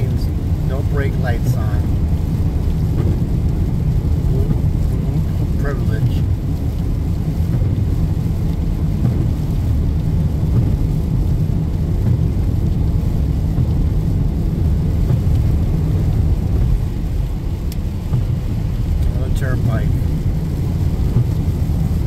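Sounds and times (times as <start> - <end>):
car driving on wet road: 0.0 - 22.0
rain: 0.0 - 22.0.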